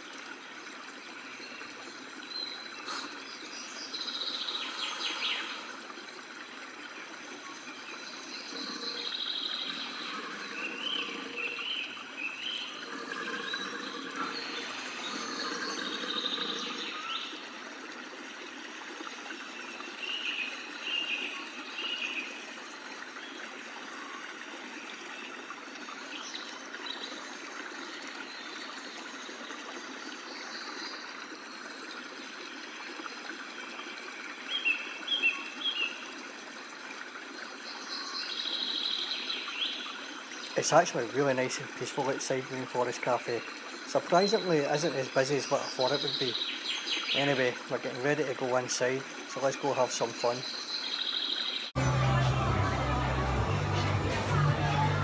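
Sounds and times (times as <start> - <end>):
water running and trickling: 0.0 - 51.8.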